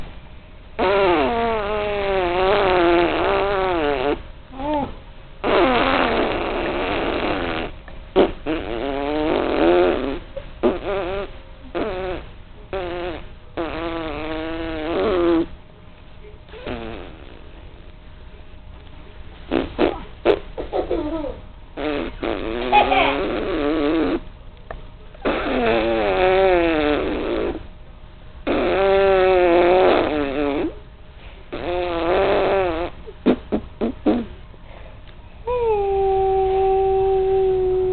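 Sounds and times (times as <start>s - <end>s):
person blowing raspberries: 0.8s - 15.5s, 16.5s - 17.6s, 19.5s - 24.3s, 25.2s - 27.7s, 28.4s - 30.8s, 31.5s - 34.4s, 35.5s - 37.9s.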